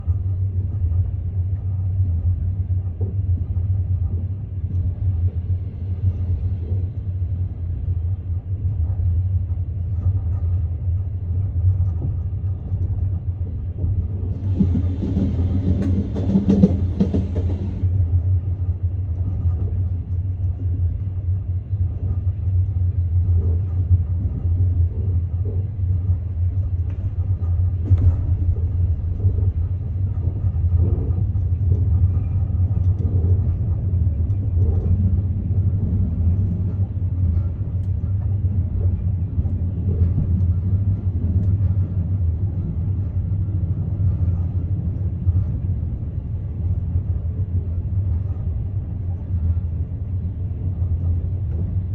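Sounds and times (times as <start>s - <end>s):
train rumbling inside carriage: 0.0s - 51.9s.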